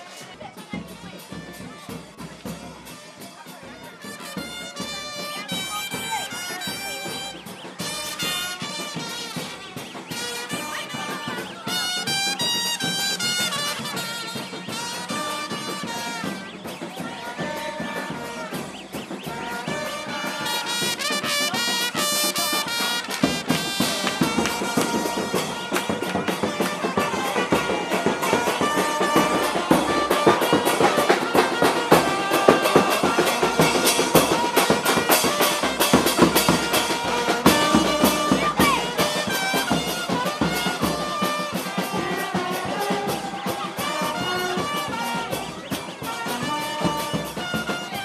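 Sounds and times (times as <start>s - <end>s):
fast steady drum beat: 0.0s - 48.0s
brass horns playing melody: 4.0s - 48.0s.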